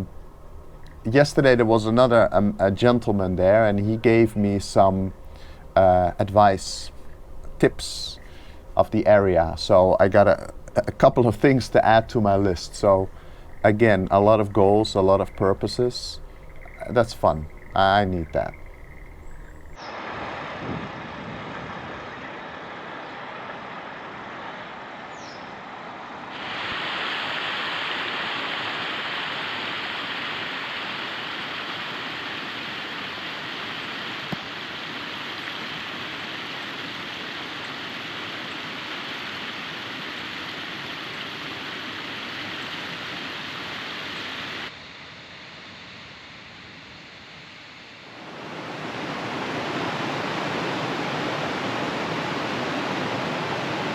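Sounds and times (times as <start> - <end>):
rushing river water: 6.5 - 44.7, 48.1 - 53.9.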